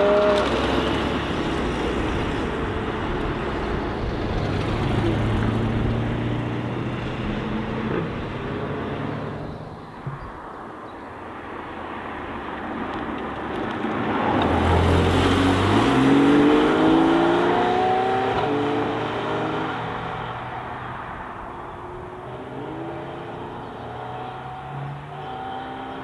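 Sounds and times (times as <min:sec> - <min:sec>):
car engine accelerating: 0:00.0 - 0:10.4, 0:13.2 - 0:26.0.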